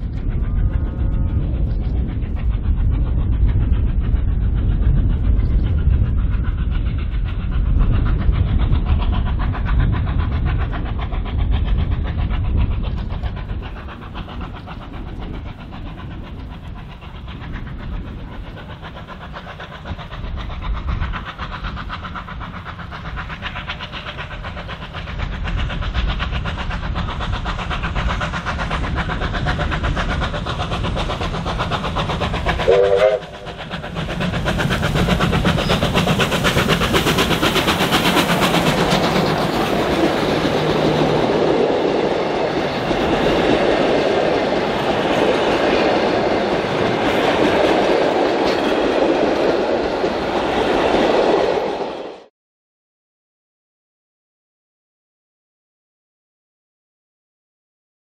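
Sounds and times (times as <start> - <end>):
rail noise: 0.0 - 52.3
train heavy low rumble: 0.0 - 52.3.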